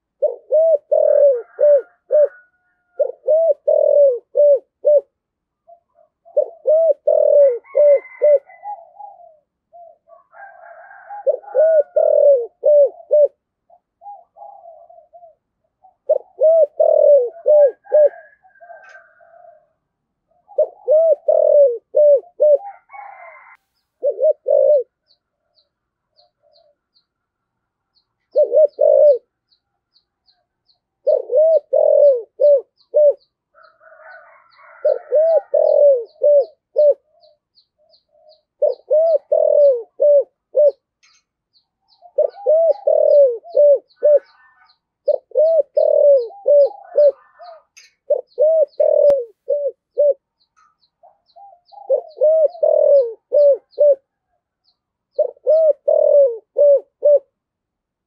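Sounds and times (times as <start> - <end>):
dove cooing: 0.0 - 25.6, 26.2 - 27.0, 27.9 - 57.4
small birds chirping: 5.5 - 10.3, 12.1 - 19.4, 20.3 - 27.2, 27.9 - 57.3.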